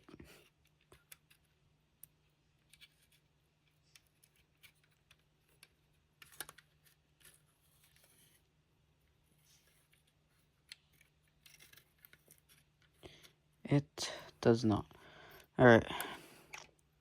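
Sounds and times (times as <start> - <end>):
small parts clicking and scraping: 0.0 - 8.5, 9.3 - 13.5, 15.3 - 16.9.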